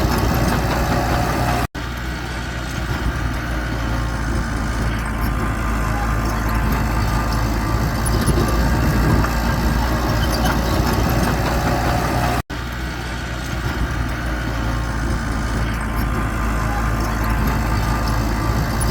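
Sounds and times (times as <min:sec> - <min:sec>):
heavy machinery diesel engine: 0:00.0 - 0:18.9.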